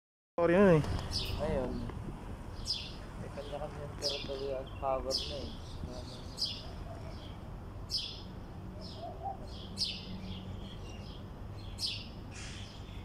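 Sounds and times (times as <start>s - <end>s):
bird chirping: 0.5s - 13.0s.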